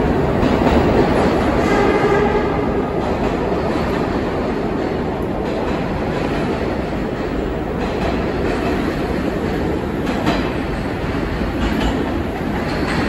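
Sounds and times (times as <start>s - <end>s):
rail joint clacks: 0.0s - 13.0s
subway train rumbling: 0.0s - 13.0s.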